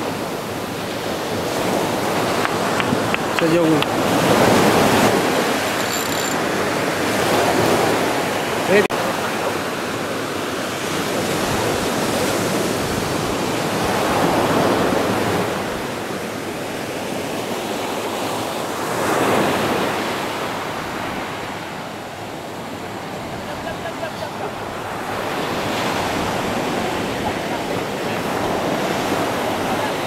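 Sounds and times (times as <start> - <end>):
surf breaking on a sandy beach: 0.0 - 30.0.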